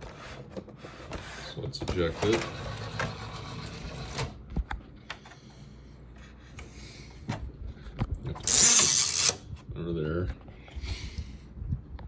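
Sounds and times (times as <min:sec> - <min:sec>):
faint mechanism whir: 0:00.0 - 0:12.0.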